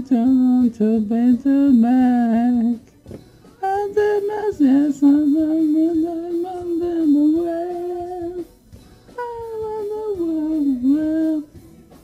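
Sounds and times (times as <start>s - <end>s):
person singing slow melody: 0.0s - 12.0s.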